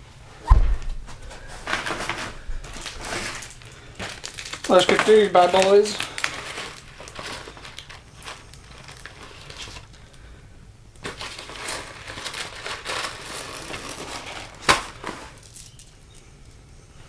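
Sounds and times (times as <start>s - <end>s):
packaging crinkling and rustling: 1.1s - 10.3s, 11.0s - 16.2s.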